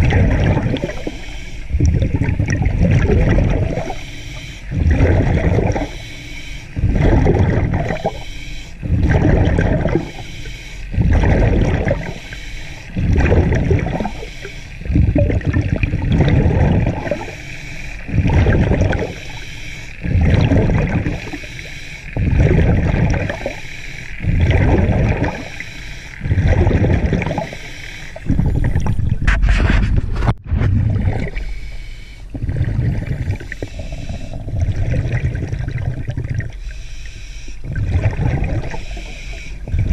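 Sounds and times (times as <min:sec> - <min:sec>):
scuba regulator breathing bubbles: 0:00.0 - 0:39.9.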